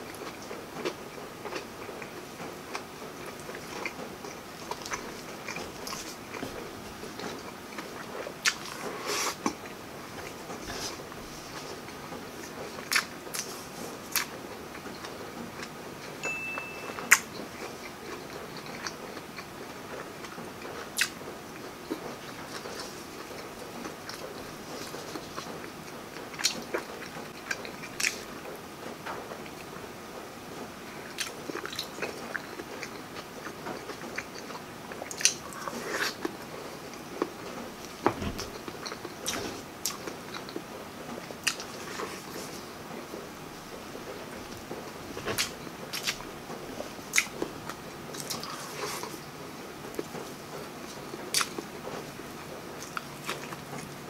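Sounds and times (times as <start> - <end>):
person chewing crunchy food: 0.1 - 16.2, 16.8 - 28.4, 30.9 - 54.0.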